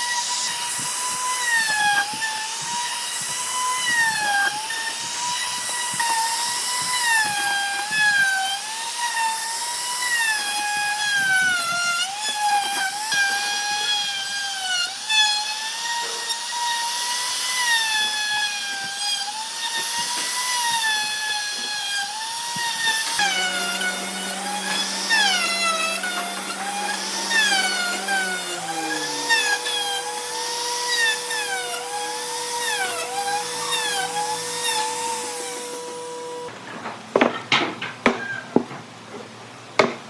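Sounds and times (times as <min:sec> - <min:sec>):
power tool whining through wood: 0:00.0 - 0:36.5.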